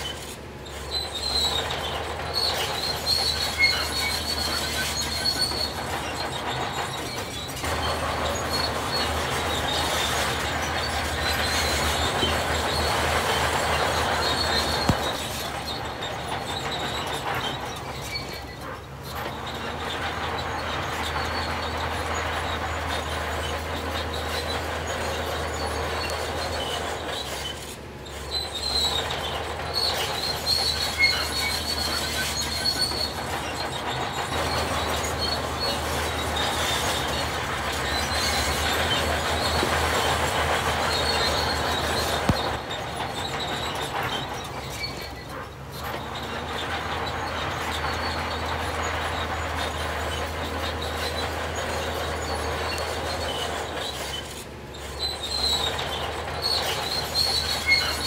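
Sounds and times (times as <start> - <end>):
heavy machinery running: 0.0 - 58.0
high metallic squeals: 0.0 - 58.0.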